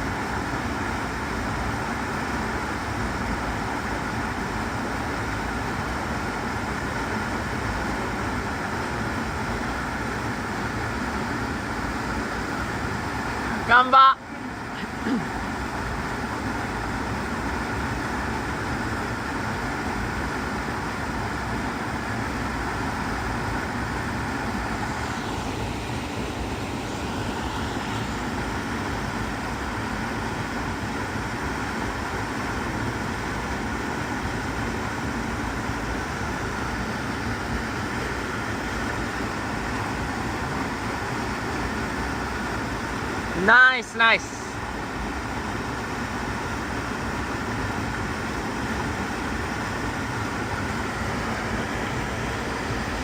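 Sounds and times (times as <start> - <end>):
waterfall rushing: 0.4 - 53.0.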